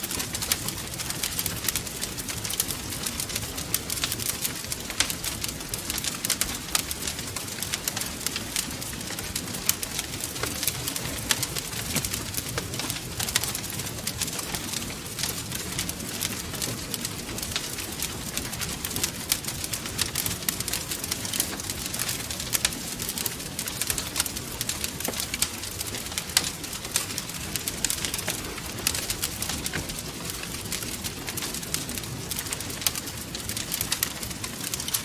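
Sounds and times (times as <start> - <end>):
burning logs hissing and rumbling: 0.0 - 35.0
wood fire popping and snapping: 0.0 - 35.0.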